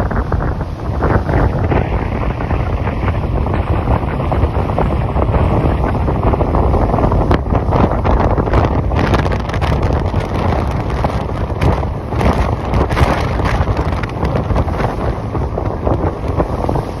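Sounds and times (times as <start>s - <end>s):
low steady ferry rumble: 0.0s - 17.0s
wind buffeting microphone: 0.0s - 17.0s.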